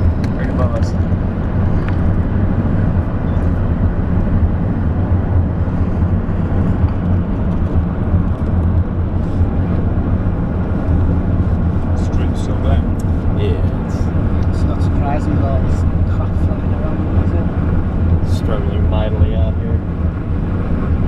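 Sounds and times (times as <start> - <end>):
car cabin road noise: 0.0 - 21.0.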